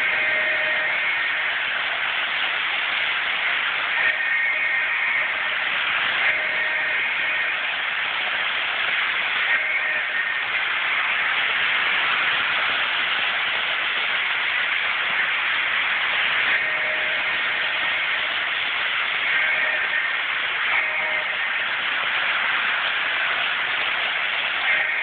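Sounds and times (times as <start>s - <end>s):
faint whine of passing train: 0.0s - 25.0s
toy train whirring on track: 0.0s - 25.0s.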